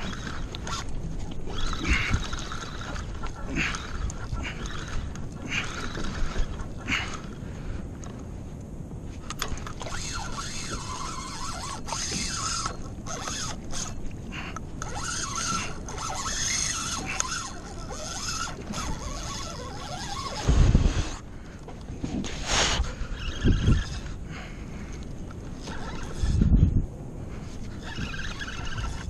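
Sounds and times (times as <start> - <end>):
pedal drive squeaking and scraping: 0.0 - 7.3, 9.3 - 21.2, 22.1 - 24.2, 25.4 - 26.7, 27.4 - 29.0
water rushing along hull: 0.0 - 26.6, 27.2 - 29.0.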